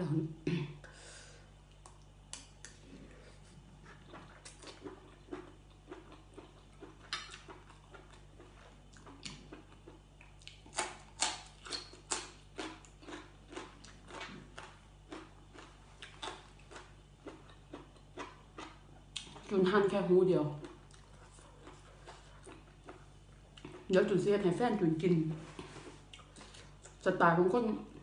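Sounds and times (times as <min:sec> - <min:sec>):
crunchy chewing: 0:01.7 - 0:19.5, 0:20.5 - 0:23.9, 0:25.6 - 0:27.0.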